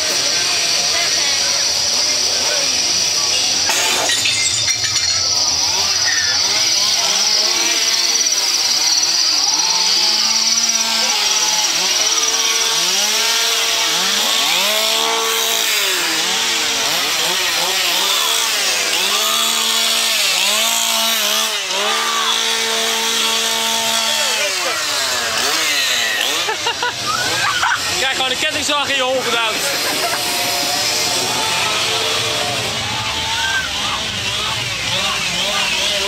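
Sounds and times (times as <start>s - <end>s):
chainsaw engine revving: 0.0s - 36.0s.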